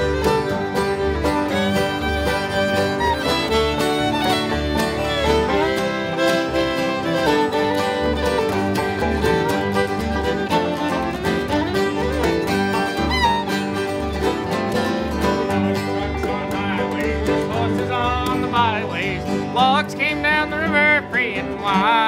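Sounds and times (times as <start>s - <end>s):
fiddle: 0.0s - 22.0s
strummed acoustic guitars: 0.0s - 22.0s.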